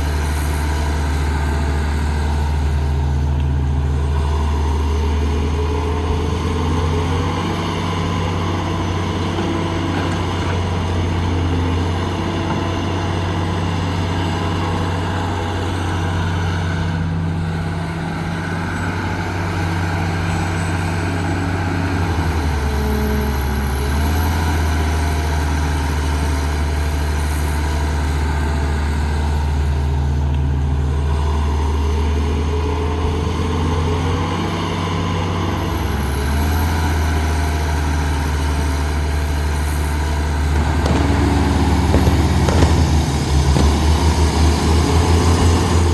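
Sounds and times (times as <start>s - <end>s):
diesel engine running: 0.0s - 37.1s, 37.8s - 45.9s.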